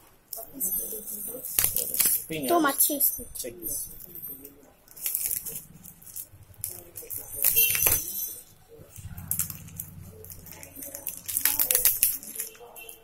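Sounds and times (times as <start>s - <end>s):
fidget spinners clicking and rattling: 0.3s - 12.6s.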